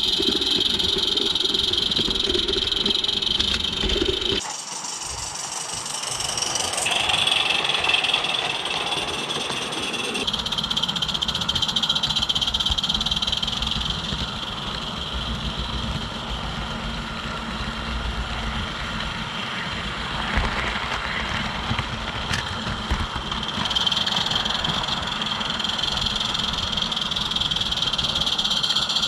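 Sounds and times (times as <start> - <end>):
small steam locomotive chuffing: 0.0 - 29.0.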